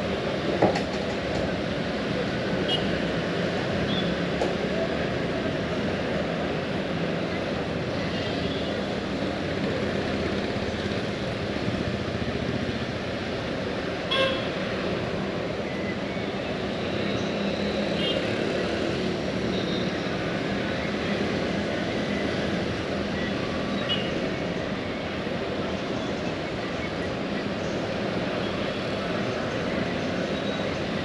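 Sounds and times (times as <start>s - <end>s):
vehicle noise: 0.0s - 31.0s.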